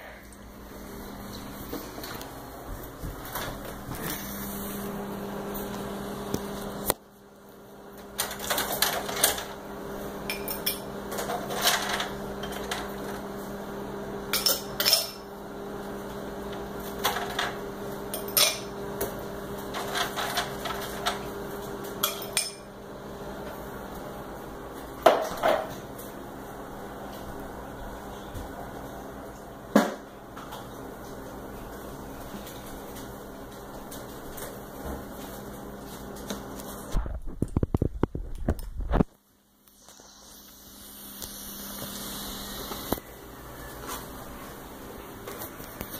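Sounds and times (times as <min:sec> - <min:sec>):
refrigerator hum: 0:00.0 - 0:45.9.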